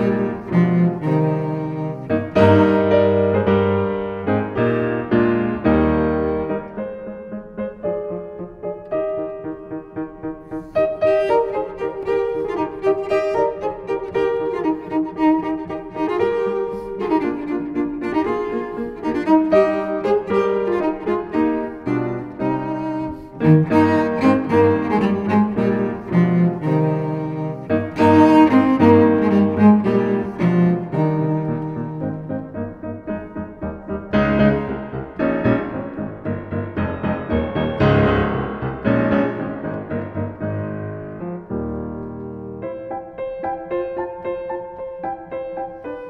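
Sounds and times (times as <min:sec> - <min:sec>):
bowed strings melody: 0:00.0 - 0:46.0
slow piano chords: 0:00.0 - 0:46.0.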